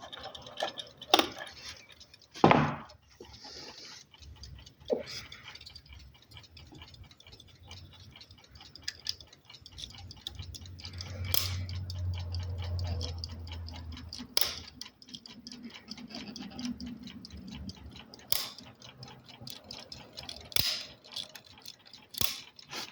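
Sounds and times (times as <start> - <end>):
clock ticking: 0.0 - 22.9
sharp clicks: 0.4 - 22.9.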